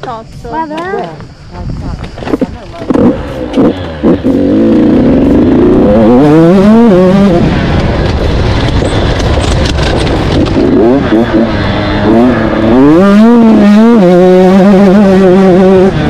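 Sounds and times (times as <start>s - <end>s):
motocross bike engine revving: 2.2s - 16.0s.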